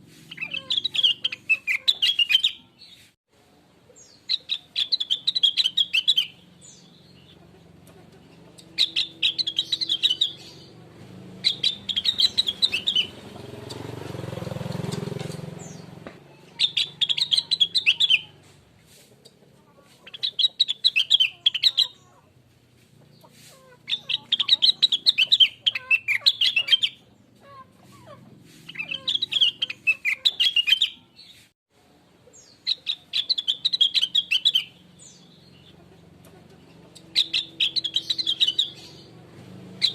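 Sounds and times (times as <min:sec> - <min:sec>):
bird chirping rapidly: 0:00.3 - 0:03.1, 0:04.0 - 0:07.4, 0:08.2 - 0:18.4, 0:20.0 - 0:22.2, 0:23.1 - 0:31.4, 0:32.3 - 0:39.9.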